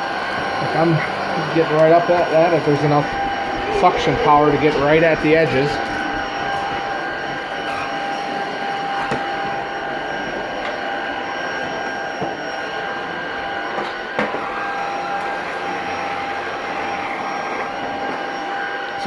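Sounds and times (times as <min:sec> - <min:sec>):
stick vacuum running: 0:00.0 - 0:19.0.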